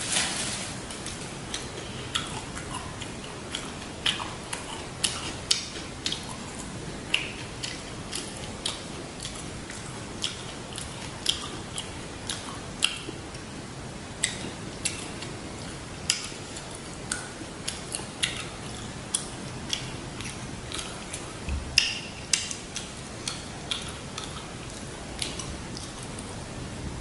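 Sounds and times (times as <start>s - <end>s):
person chewing food: 0.9s - 13.4s, 14.2s - 26.4s.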